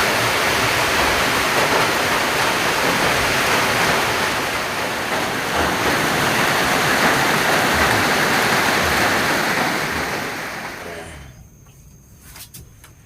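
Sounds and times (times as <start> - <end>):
water rushing: 0.0 - 11.3.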